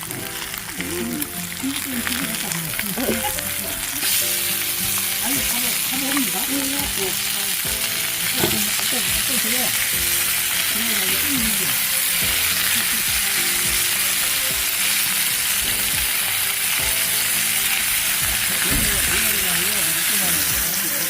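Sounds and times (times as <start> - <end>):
pork belly sizzling in a pan: 0.0 - 21.0.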